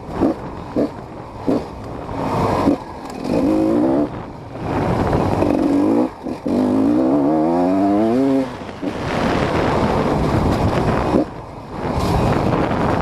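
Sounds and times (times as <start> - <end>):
dirt bike engine revving: 0.1 - 13.0.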